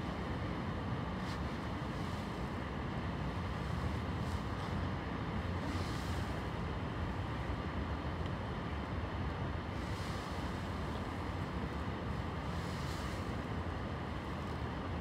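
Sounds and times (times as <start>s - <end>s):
distant city and railway traffic: 0.0s - 15.0s.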